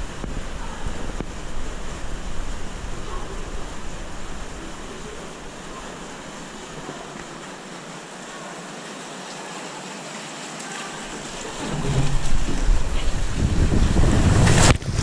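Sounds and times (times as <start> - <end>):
rider sliding through water: 0.0 - 15.0
water rushing down a slide: 0.0 - 15.0.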